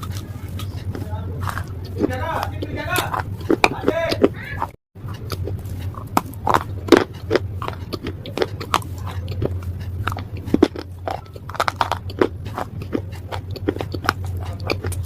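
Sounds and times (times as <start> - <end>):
crunching of hard brittle pieces: 0.0 - 15.0
steady low hum: 0.0 - 15.0.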